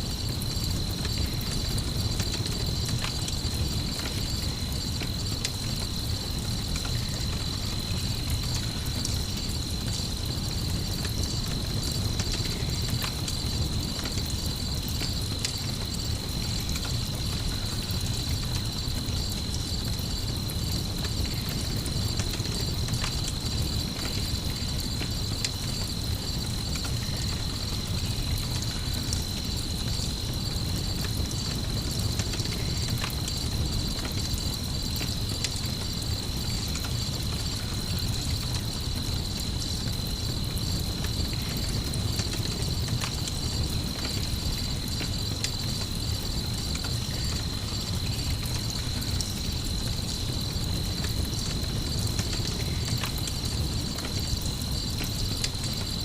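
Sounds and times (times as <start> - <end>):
crickets trilling: 0.0 - 56.0
campfire crackling and popping: 0.1 - 56.0.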